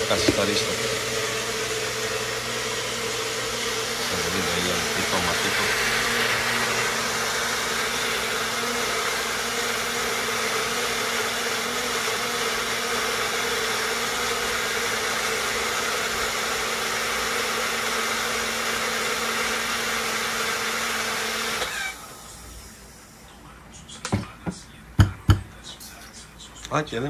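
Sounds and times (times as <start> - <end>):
blender running: 0.0 - 23.1.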